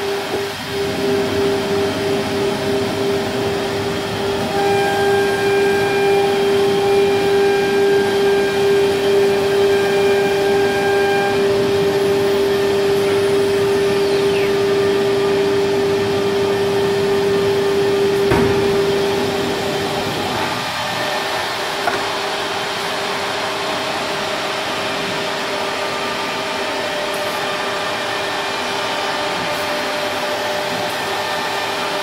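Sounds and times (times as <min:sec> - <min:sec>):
dust collection vacuum rushing: 0:00.0 - 0:32.0
router spindle whine: 0:00.0 - 0:32.0.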